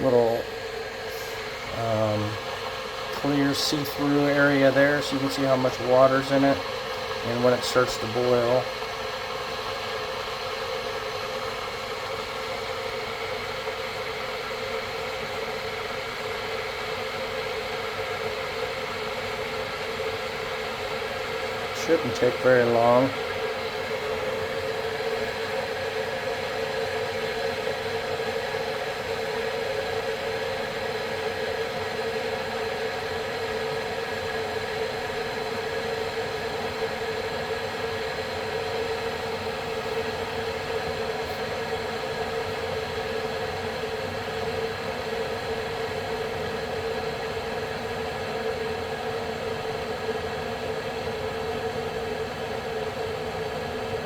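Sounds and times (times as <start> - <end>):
electric kettle boiling water: 0.0 - 54.0.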